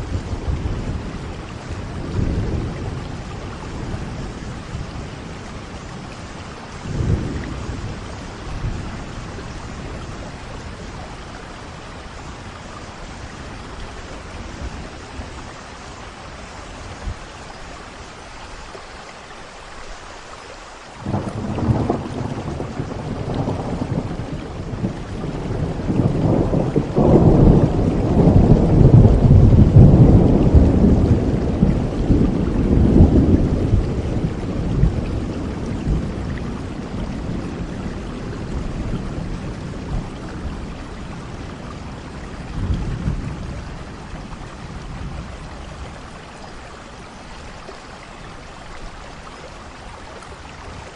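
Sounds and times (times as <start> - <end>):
thunder rumbling: 0.0 - 17.2, 21.0 - 46.4
steady rain falling: 0.0 - 50.9.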